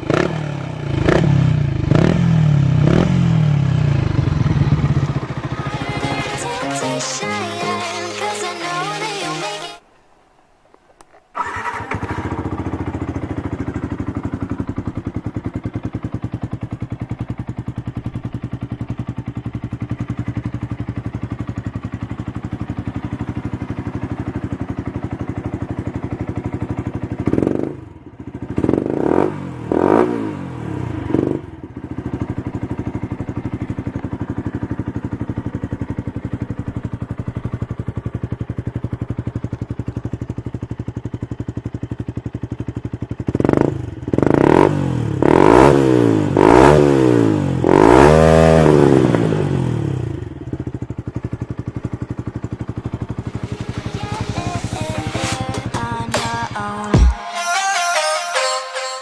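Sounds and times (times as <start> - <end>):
motorcycle engine idling and revving: 0.0 - 7.3, 11.0 - 57.2.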